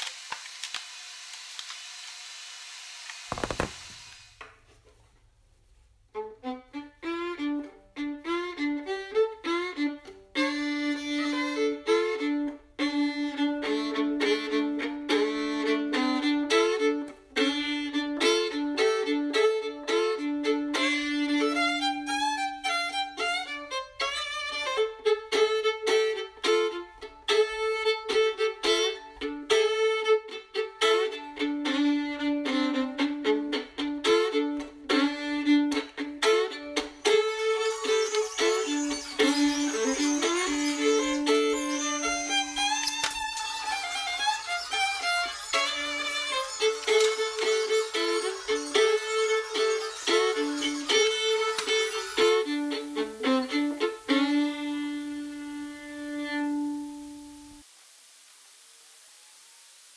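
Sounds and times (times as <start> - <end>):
lively violin tune: 3.3 - 4.6, 6.1 - 57.7.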